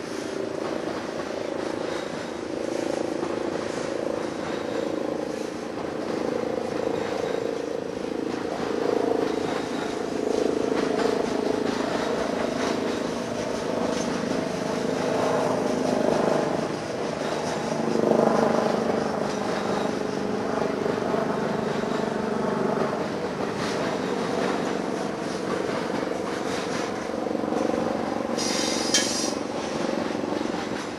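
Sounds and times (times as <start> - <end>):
steel wheels on rail: 0.0 - 30.9.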